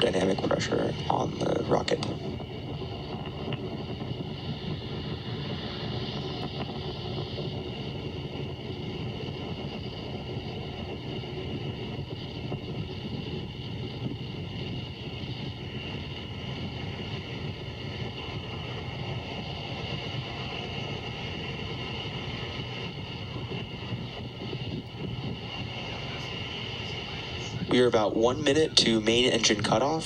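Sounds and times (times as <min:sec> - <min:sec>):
rocket engines rumbling: 0:00.0 - 0:30.0.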